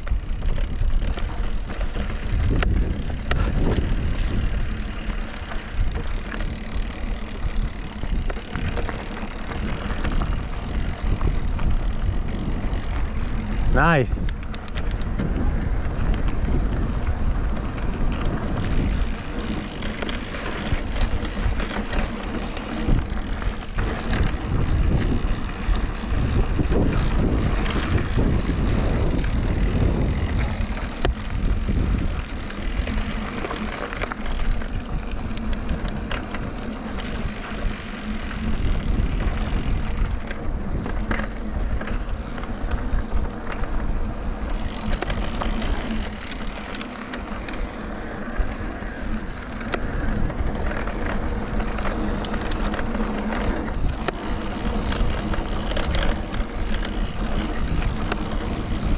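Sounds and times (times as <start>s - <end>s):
bike rattling: 0.0s - 58.9s
bike tyre noise: 0.0s - 58.9s
wind rumbling on microphone: 0.0s - 58.9s.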